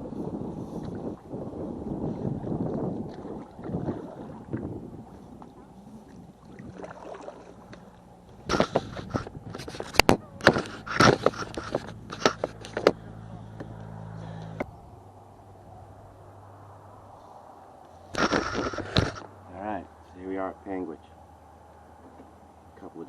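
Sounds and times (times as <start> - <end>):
wind and water rumble: 0.0 - 23.0.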